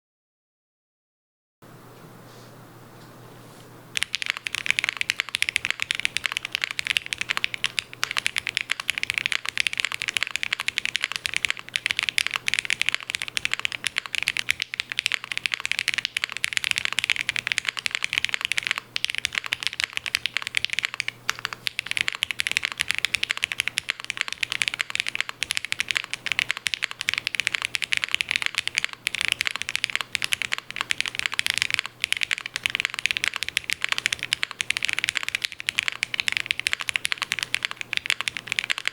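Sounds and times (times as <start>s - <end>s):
mechanical keyboard typing: 4.0s - 38.9s.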